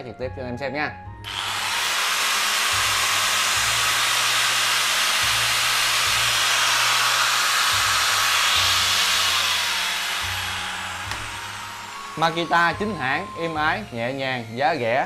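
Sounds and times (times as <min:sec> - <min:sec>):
angle grinder whining: 0:01.2 - 0:15.0.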